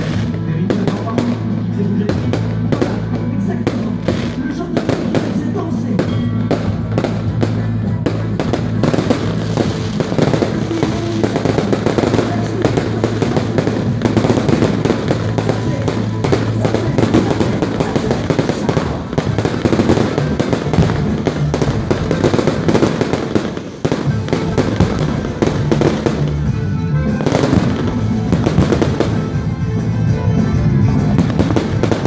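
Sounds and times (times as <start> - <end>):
fireworks crackling and banging: 0.0 - 32.0
music with low notes: 0.0 - 32.0.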